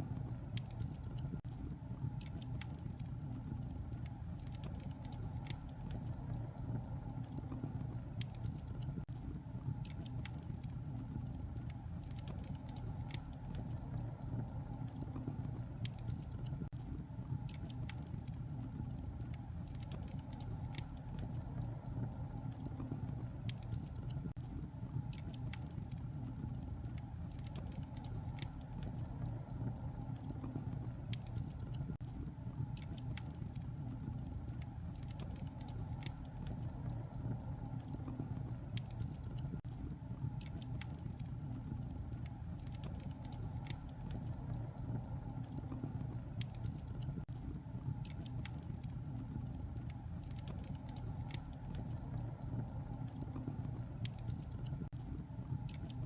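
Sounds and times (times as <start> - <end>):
low rumble of flames: 0.0 - 56.0
wood fire pops and snaps: 0.0 - 56.0.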